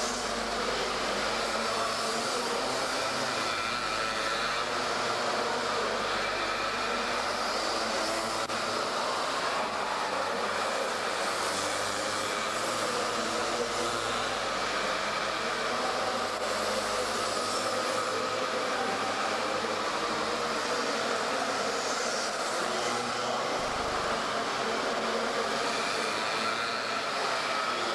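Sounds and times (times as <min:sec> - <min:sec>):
mini motorbike engines buzzing: 0:00.0 - 0:27.9.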